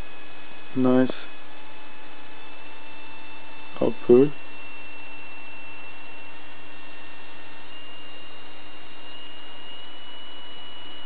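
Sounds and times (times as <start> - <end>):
faint low hum: 0.0 - 11.0
high-pitched oscillator whine: 0.0 - 11.0.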